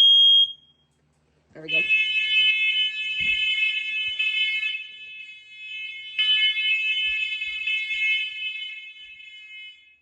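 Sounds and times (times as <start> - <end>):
smoke alarm tone: 0.0 - 0.8, 1.6 - 10.0.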